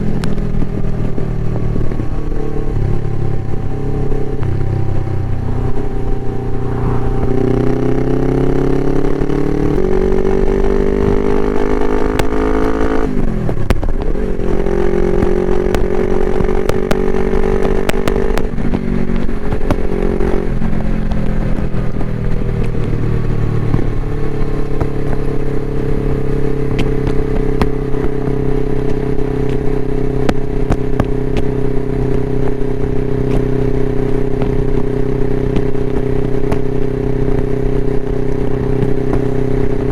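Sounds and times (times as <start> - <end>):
exhaust crackles: 0.0 - 39.9
motorcycle engine revving: 0.0 - 39.9.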